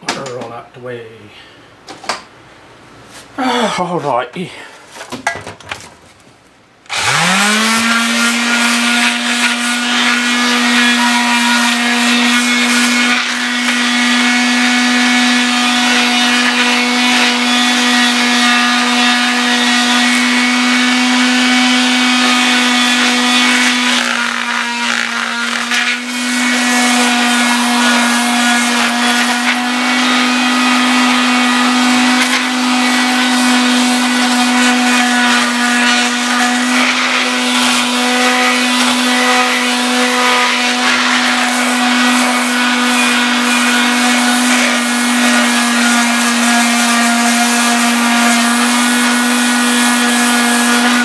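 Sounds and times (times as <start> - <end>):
electric sheet sander running: 6.9 - 51.0.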